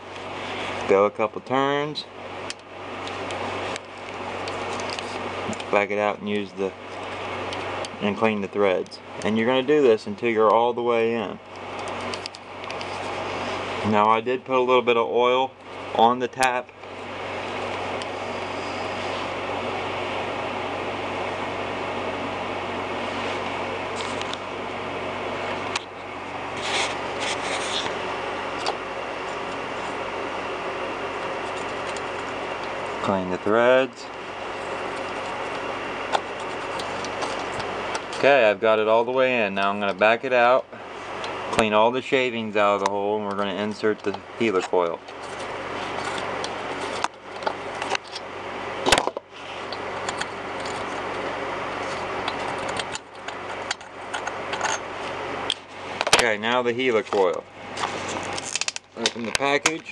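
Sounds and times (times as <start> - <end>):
steady hum: 0.0 - 59.9
steady noise: 0.0 - 59.9.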